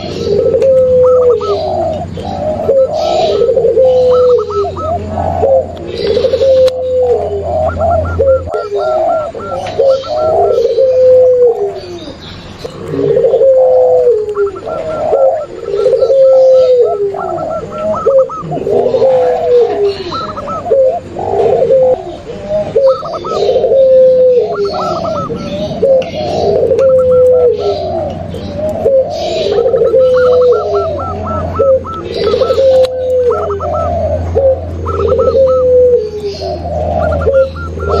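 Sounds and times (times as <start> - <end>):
doves cooing: 0.0 - 38.0.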